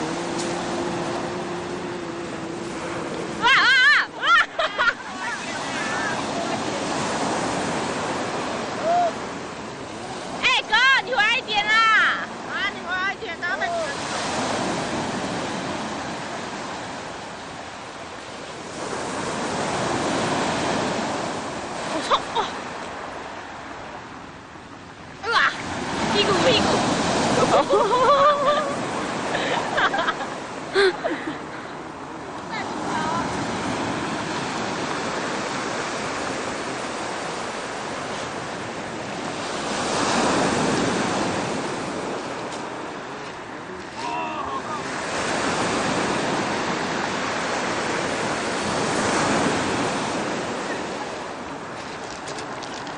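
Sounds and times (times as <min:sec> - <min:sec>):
ocean surf breaking: 0:00.0 - 0:52.9.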